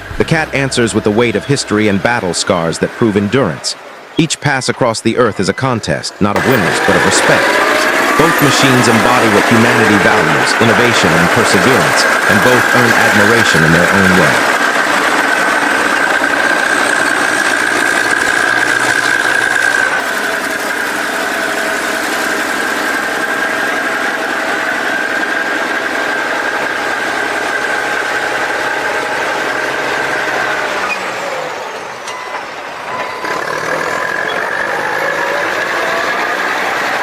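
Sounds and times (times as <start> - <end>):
bulldozer diesel engines: 0.0 - 37.0
high-pitched whine: 0.0 - 37.0.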